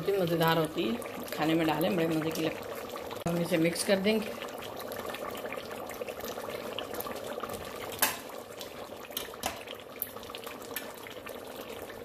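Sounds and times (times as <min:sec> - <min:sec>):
food bubbling and sizzling: 0:00.0 - 0:12.0.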